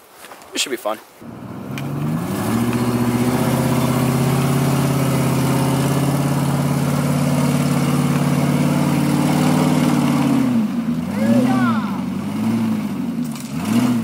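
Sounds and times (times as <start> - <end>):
truck engine at high revs: 1.2 - 14.0
wheels spinning in mud: 1.2 - 14.0.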